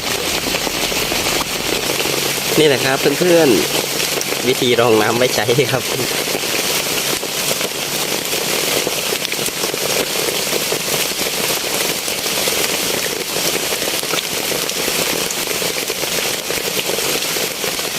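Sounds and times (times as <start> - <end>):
heavy rain: 0.0 - 17.9.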